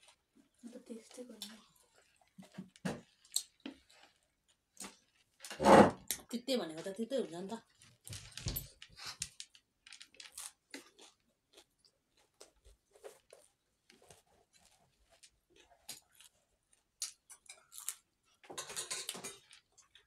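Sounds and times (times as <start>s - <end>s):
chewing crunchy food: 0.0s - 6.2s, 7.6s - 20.0s.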